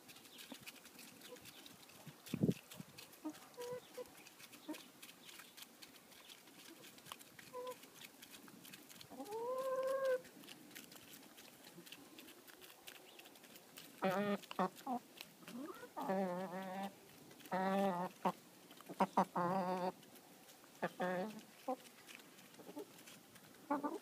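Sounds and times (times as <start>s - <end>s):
hens pecking clicks: 0.0s - 24.0s
hens clucking: 0.1s - 24.0s
drawn-out hen call: 0.2s - 7.9s, 8.7s - 20.1s, 20.7s - 24.0s.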